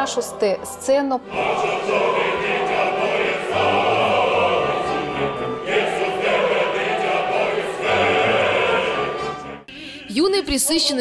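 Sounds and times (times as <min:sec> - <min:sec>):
opera chorus singing: 0:00.0 - 0:11.0.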